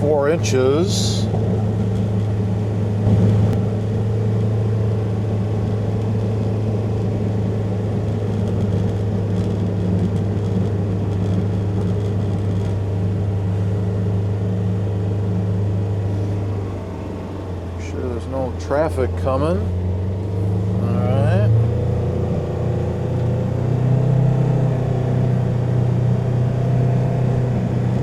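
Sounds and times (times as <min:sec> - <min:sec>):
vehicle engine running under load: 0:00.0 - 0:28.0.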